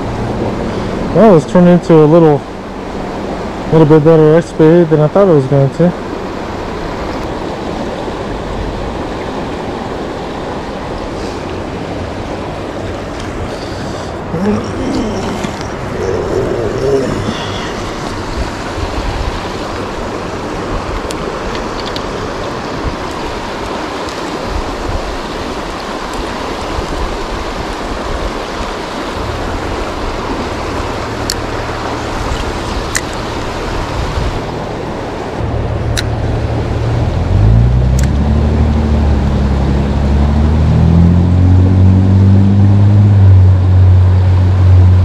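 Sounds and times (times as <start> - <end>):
water rushing over rocks: 0.0 - 45.0.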